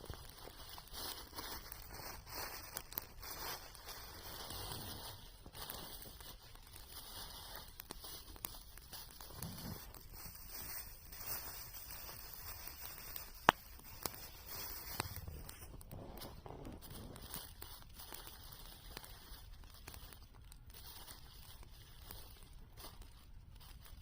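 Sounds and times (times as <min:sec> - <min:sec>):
food wrapping crinkling: 0:00.0 - 0:24.0.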